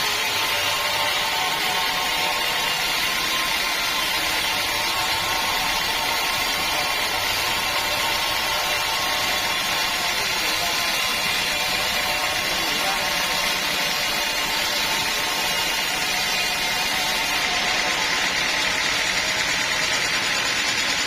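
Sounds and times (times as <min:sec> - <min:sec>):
sawmill saw hissing: 0:00.0 - 0:21.0.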